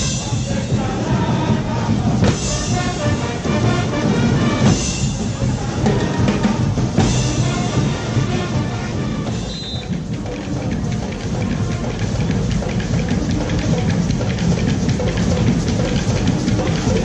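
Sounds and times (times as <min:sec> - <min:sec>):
music with drums and brass: 0:00.0 - 0:17.0.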